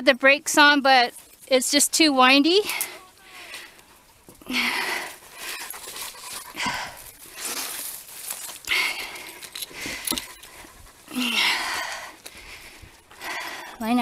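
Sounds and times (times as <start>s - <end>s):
dog panting: 2.6s - 13.8s.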